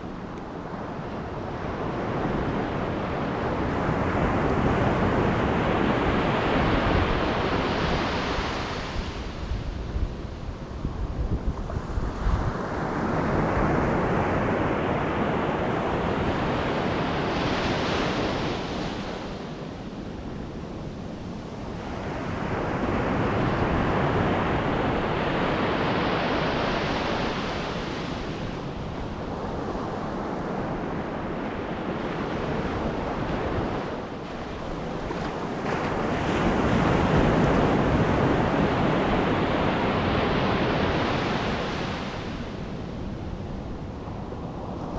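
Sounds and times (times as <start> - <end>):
wind buffeting microphone: 0.0 - 44.9
waves breaking on beach: 0.6 - 9.8, 11.8 - 44.9.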